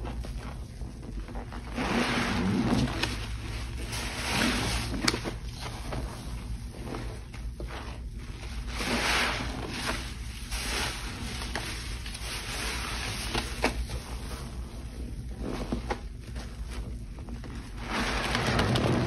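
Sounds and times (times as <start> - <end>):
soapy water sloshing: 0.0 - 19.0.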